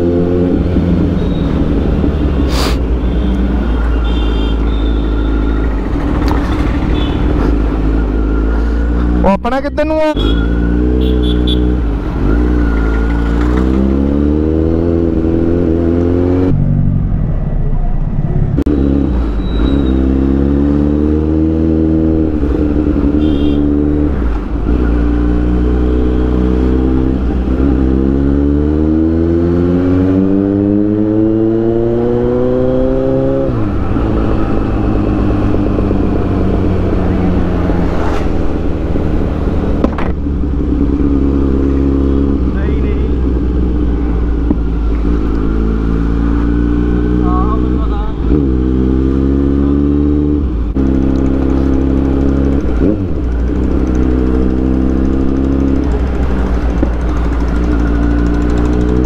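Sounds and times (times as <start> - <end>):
motorcycle engine revving: 0.0 - 9.3, 10.2 - 17.2, 18.6 - 59.0.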